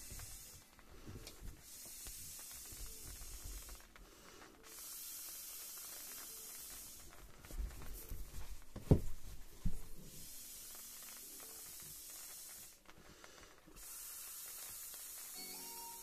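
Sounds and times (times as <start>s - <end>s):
balloon skin rubbing: 0.0s - 16.0s
breath blowing up balloon: 0.0s - 16.0s.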